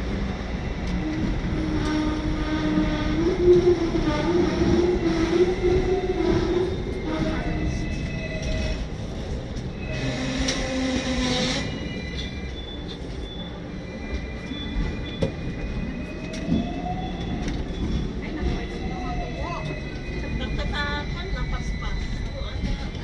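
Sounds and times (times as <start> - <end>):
tram wheels rumbling on rails: 0.0 - 23.0
high wheel squeals: 3.9 - 23.0.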